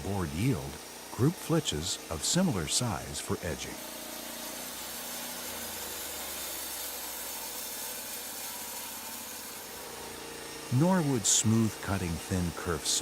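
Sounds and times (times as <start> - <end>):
saw cutting hiss: 0.0 - 13.0
sawmill engine hum: 0.0 - 13.0.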